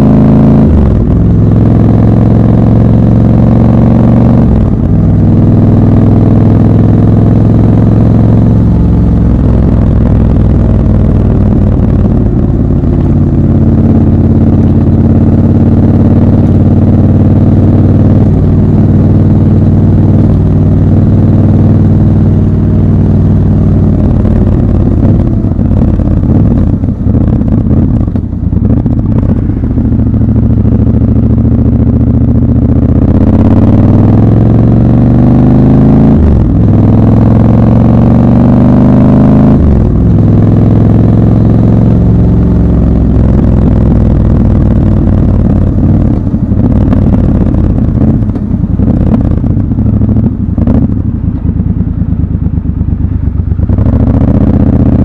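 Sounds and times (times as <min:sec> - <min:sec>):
motorcycle engine while riding: 0:00.0 - 0:55.0.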